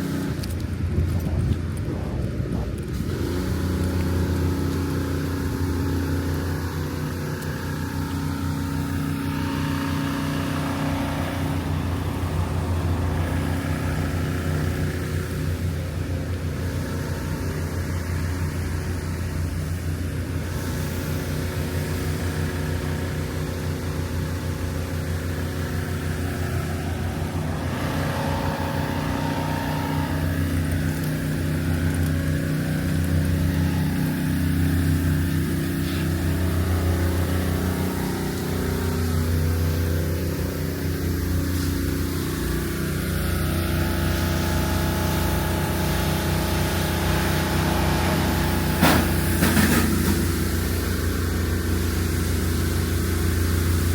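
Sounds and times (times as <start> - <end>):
motor humming: 0.0 - 53.9.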